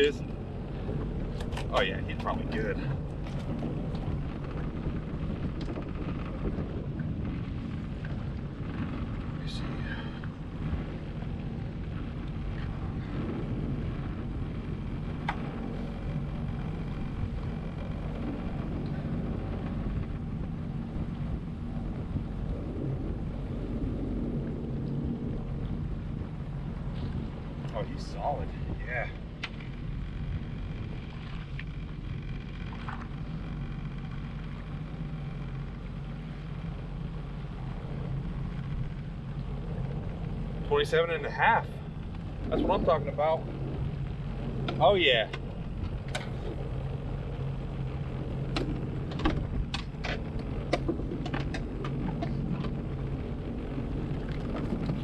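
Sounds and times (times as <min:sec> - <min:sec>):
water noise: 0:00.0 - 0:55.0
watercraft engine running: 0:00.0 - 0:55.0
wind: 0:00.0 - 0:55.0.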